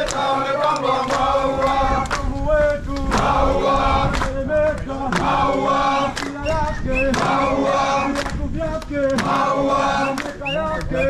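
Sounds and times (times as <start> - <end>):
group singing chant-like song: 0.0 - 11.0.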